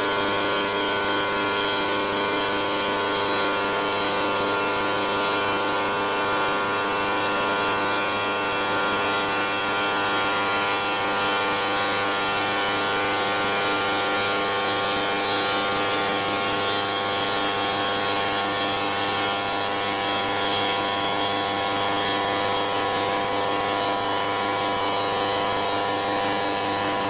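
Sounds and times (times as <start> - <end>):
stone router machine whine: 0.0 - 27.0.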